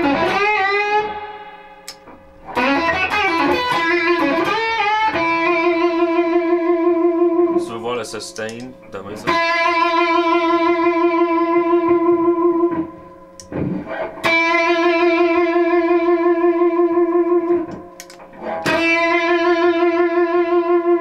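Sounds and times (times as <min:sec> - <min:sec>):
overdriven electric guitar notes: 0:00.0 - 0:07.8, 0:08.8 - 0:21.0.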